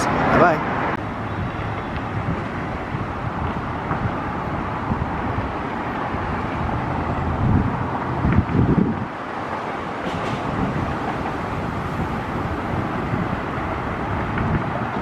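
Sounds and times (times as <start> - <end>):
traffic: 0.0 - 15.0
wind on microphone: 0.0 - 15.0.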